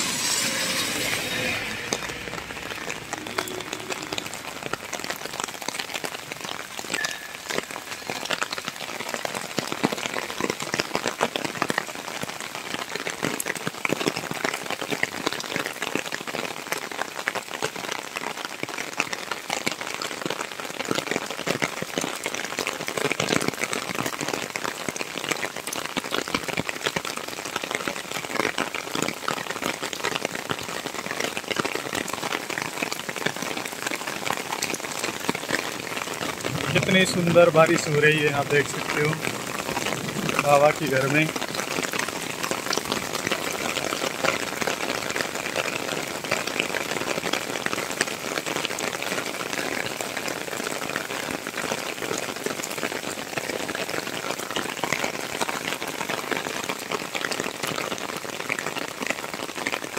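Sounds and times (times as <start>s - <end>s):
heavy rain on wet road: 0.0s - 59.9s.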